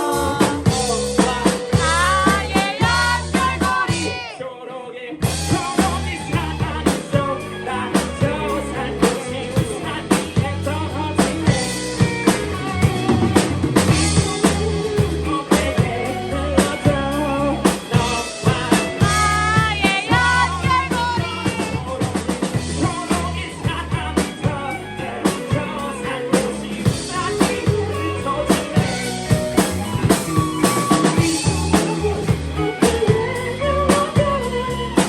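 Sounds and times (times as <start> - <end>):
rock band playing: 0.0 - 4.4, 5.2 - 35.0
person singing melody: 0.0 - 4.5, 5.2 - 35.0.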